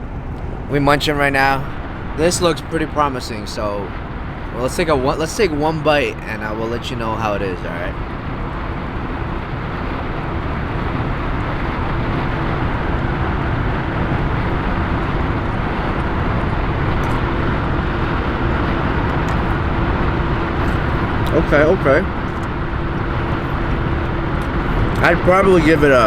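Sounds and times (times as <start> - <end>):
faint steady hum: 0.0 - 26.0
car cabin rumble: 4.6 - 26.0.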